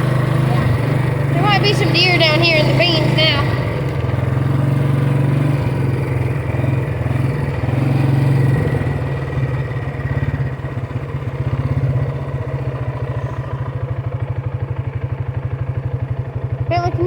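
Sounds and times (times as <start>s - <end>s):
farm vehicle engine running: 0.0s - 17.0s.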